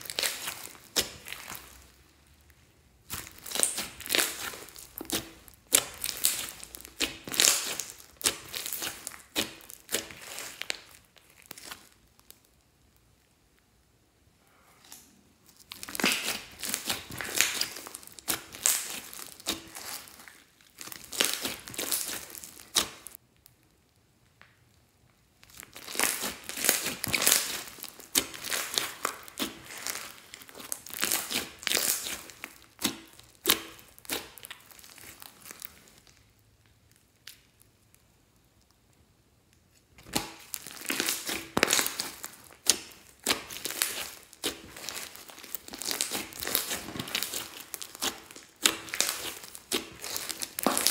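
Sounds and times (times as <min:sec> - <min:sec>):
hands squishing slime: 0:00.0 - 0:12.5, 0:14.8 - 0:23.2, 0:25.3 - 0:38.0, 0:39.6 - 0:50.9.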